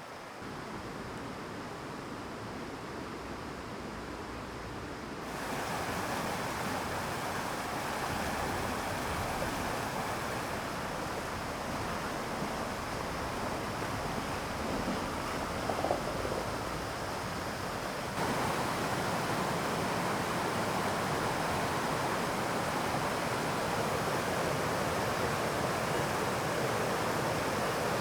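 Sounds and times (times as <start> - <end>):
stream water rushing: 5.2 - 28.0.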